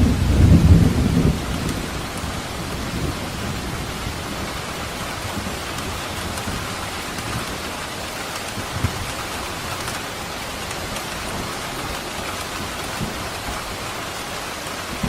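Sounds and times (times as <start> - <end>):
heavy raindrop thuds: 0.0 - 15.0
steady rain hiss: 0.0 - 15.0.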